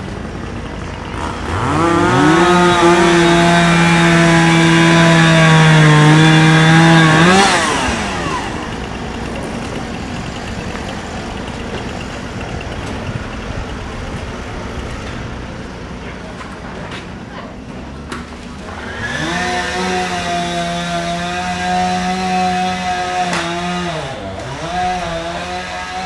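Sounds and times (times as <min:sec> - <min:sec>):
small petrol engine revving: 0:00.0 - 0:26.0.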